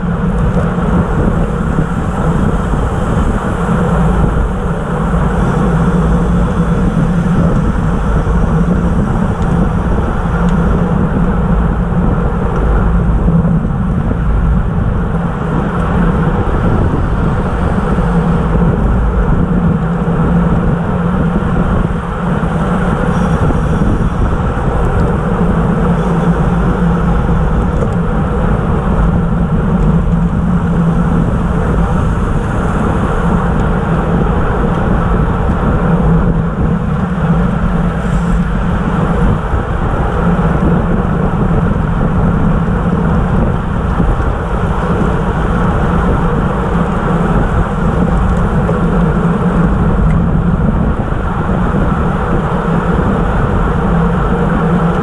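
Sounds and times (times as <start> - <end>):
bike tyres humming on asphalt: 0.0 - 55.0
wind rushing over microphone: 0.0 - 55.0.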